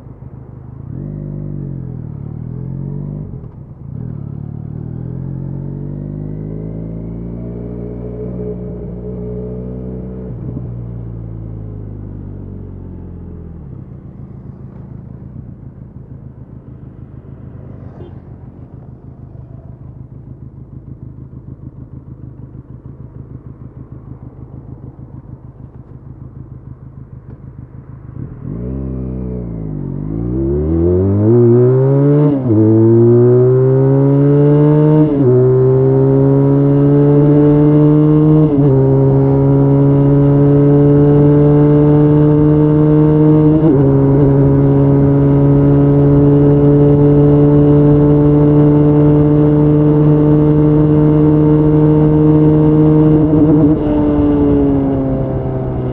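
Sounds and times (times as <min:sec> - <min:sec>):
motorcycle engine idling and revving: 0:00.0 - 0:55.9.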